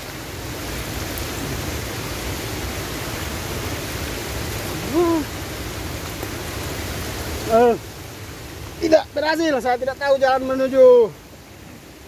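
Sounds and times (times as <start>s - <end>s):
flowing water: 0.0s - 12.0s.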